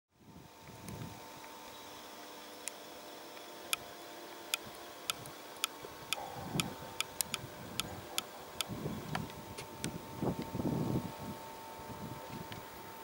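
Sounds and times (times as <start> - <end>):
thin steady whine: 0.1 - 13.0.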